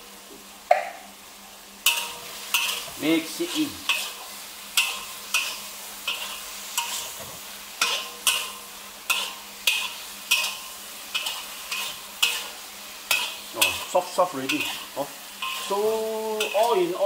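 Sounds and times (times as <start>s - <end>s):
eggplant sizzling in a pan: 0.0s - 17.0s
metal spatula scraping a wok: 1.8s - 17.0s.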